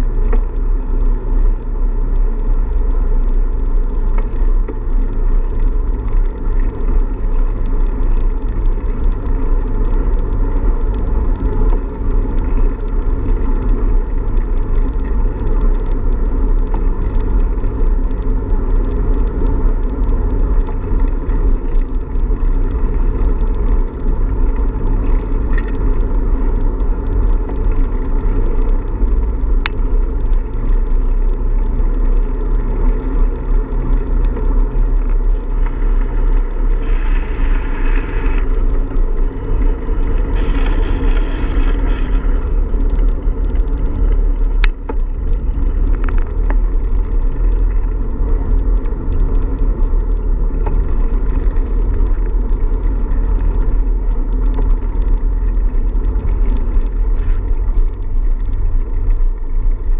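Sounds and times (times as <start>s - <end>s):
road rumble: 0.0s - 59.9s.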